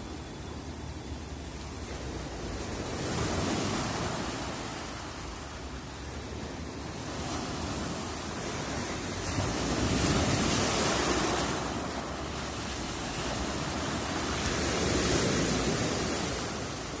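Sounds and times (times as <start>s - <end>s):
waves breaking on shore: 0.0s - 17.0s.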